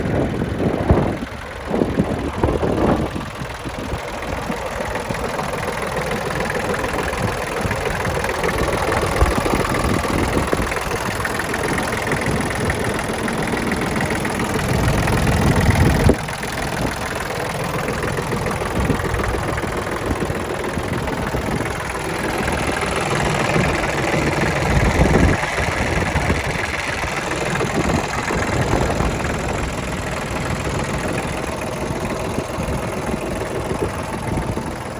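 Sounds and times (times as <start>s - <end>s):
engine knocks: 0.0s - 34.9s
tractor diesel engine idling: 0.0s - 34.9s.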